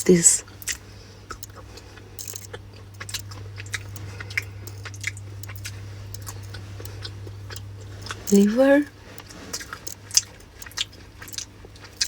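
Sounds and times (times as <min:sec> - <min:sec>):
steady low hum: 0:00.0 - 0:12.0
person chewing crunchy snack: 0:00.4 - 0:12.0.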